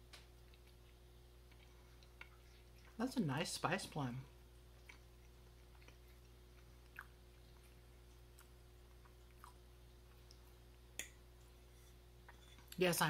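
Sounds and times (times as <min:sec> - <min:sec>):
faint chewing: 0:00.0 - 0:03.1, 0:04.2 - 0:12.8
low room hum: 0:00.0 - 0:13.0.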